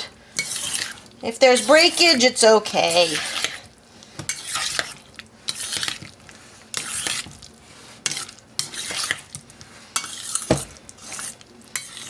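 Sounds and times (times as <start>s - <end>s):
utensil scraping mixing bowl: 0.4s - 12.0s.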